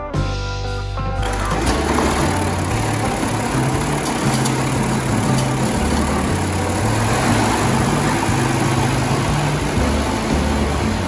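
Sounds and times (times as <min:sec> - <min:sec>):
tractor engine idling: 0:01.2 - 0:11.0.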